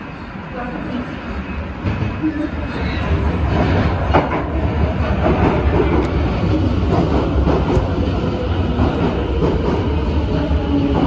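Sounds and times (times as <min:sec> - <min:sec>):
train wheels rumbling on rail: 0:00.2 - 0:11.0.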